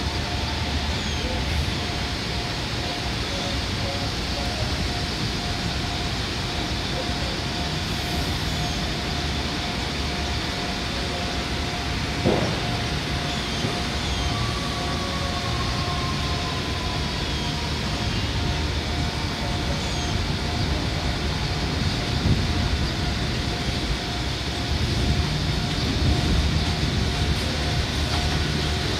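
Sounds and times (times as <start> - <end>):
distant train rumble: 0.0 - 28.9.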